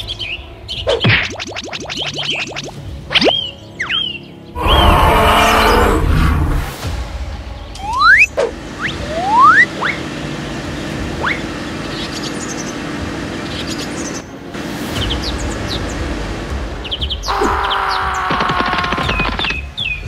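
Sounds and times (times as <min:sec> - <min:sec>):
birds chirping: 0:00.0 - 0:06.4, 0:07.5 - 0:20.0.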